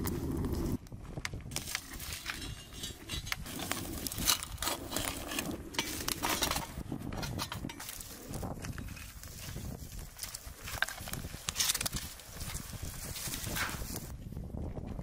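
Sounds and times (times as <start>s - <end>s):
wood fire crackling: 0.0s - 14.2s.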